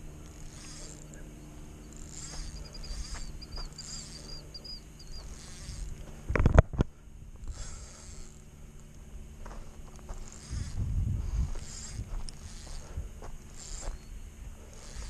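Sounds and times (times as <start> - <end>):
insects buzzing and chirping: 0.0 - 15.0.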